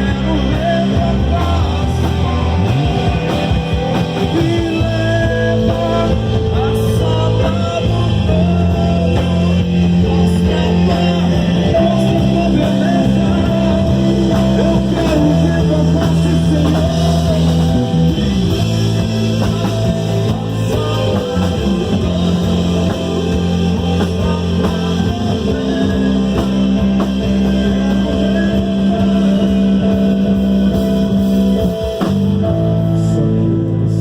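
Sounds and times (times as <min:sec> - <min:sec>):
live band playing: 0:00.0 - 0:34.0.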